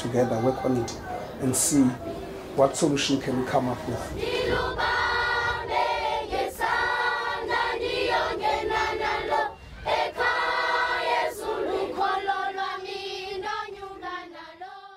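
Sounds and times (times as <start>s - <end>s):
children's choir singing: 0.0s - 14.9s.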